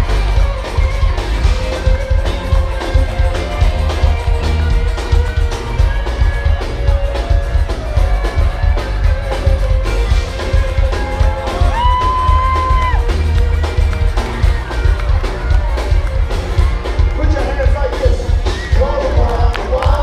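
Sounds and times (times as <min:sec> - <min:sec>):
live band music: 0:00.0 - 0:20.0.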